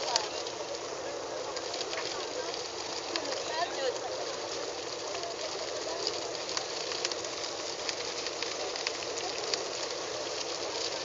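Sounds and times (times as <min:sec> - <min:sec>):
small sharp ticks: 0:00.0 - 0:11.0.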